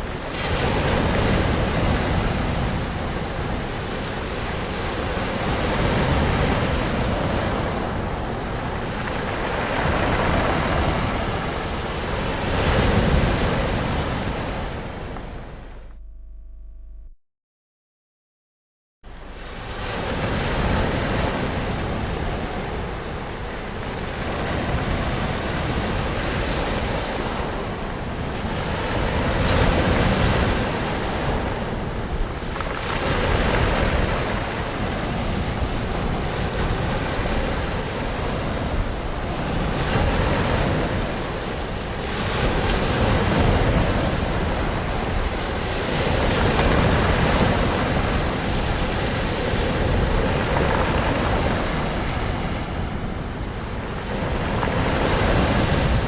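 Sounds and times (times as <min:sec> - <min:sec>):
ocean waves rushing: 0:00.0 - 0:15.8, 0:19.1 - 0:56.0.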